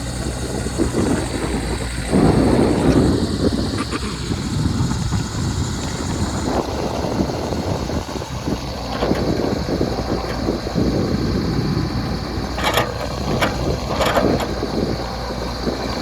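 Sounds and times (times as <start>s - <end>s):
diesel engine low rumble: 0.0s - 16.0s.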